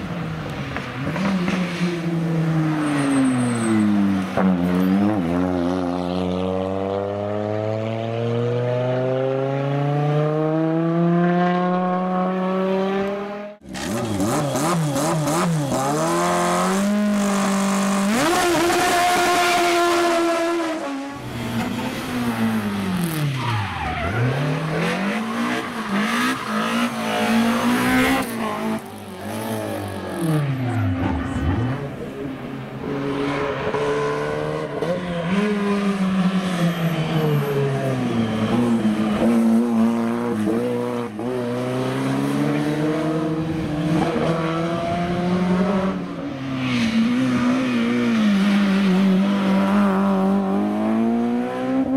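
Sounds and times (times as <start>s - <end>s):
rally car engine revving: 4.3s - 51.9s.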